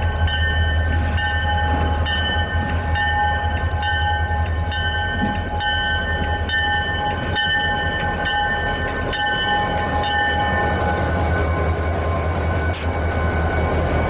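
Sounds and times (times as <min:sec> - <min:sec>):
diesel locomotive engine rumbling: 0:00.0 - 0:14.0
locomotive bell ringing: 0:00.0 - 0:14.0.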